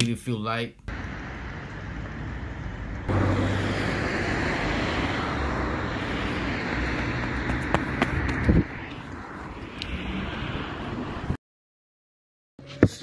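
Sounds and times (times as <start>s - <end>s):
road traffic rushing: 0.9s - 11.4s.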